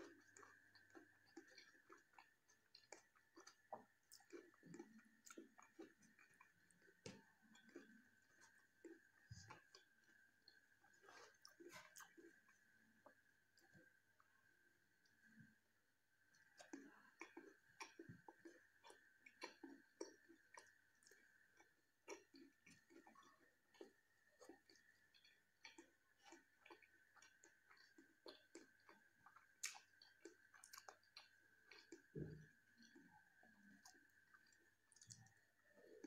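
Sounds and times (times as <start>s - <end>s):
faint high-pitched hum: 0.0s - 36.0s
wet mouth chewing clicks: 0.1s - 13.7s, 16.3s - 36.0s.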